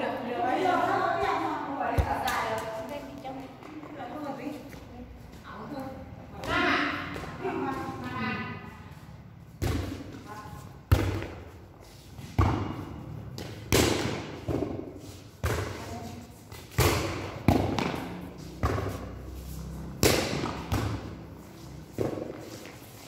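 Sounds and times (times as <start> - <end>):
volleyball thuds in a hall: 0.0 - 23.0.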